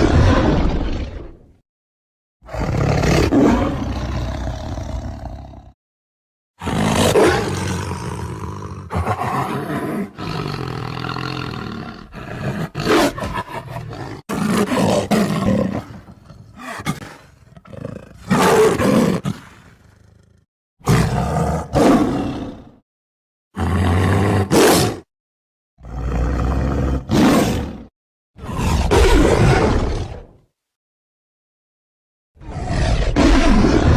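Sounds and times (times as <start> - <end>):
tiger roaring and growling: 0.0 - 1.6, 2.4 - 5.8, 6.6 - 22.8, 23.6 - 25.1, 25.8 - 30.4, 32.4 - 33.9.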